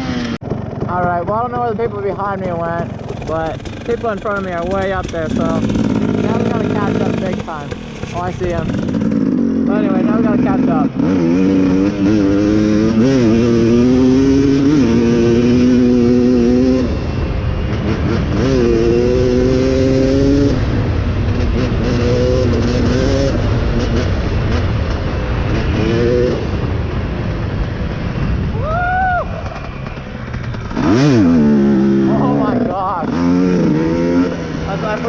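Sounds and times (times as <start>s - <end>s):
dirt bike engine revving: 0.0s - 28.7s, 29.3s - 35.0s
steady rushing noise: 0.0s - 35.0s.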